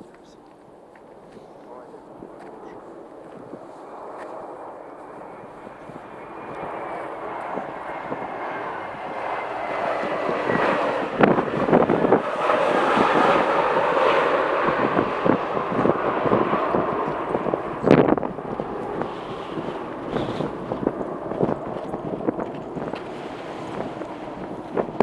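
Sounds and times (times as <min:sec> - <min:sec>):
jet airliner engines rushing: 0:00.0 - 0:25.0
wind buffeting microphone: 0:00.0 - 0:25.0.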